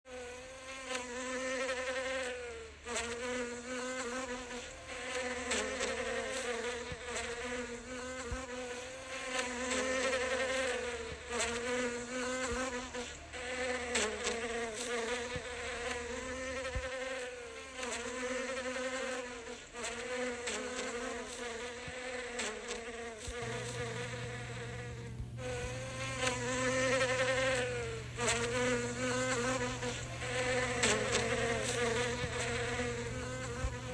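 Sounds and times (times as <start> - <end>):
bee buzzing in flight: 0.1 - 33.9.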